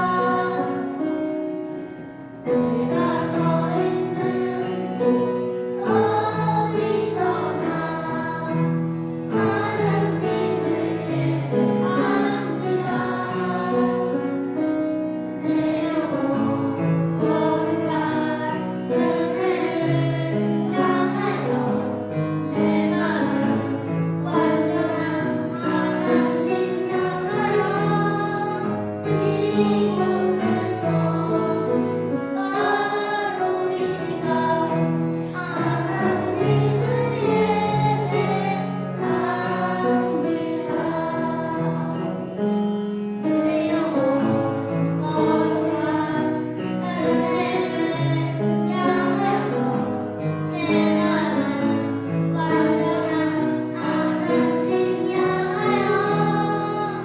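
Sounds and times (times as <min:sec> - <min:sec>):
children singing a worship song: 0:00.0 - 0:57.0
instrumental accompaniment: 0:00.0 - 0:57.0.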